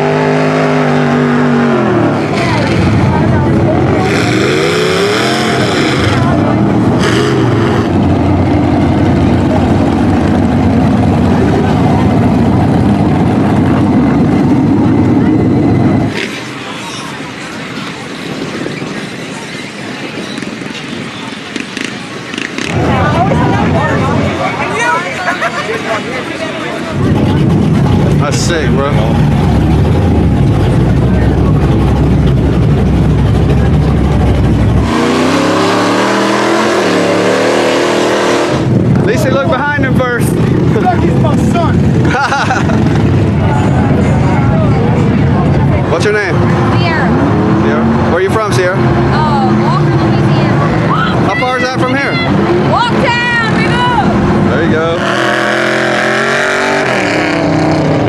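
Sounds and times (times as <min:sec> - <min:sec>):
large truck engine running: 0:00.0 - 0:58.0.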